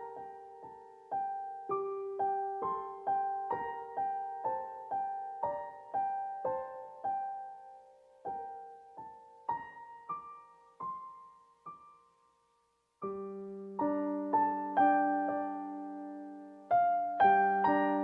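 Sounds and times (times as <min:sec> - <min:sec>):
piano music: 0:00.0 - 0:12.4, 0:13.0 - 0:18.0.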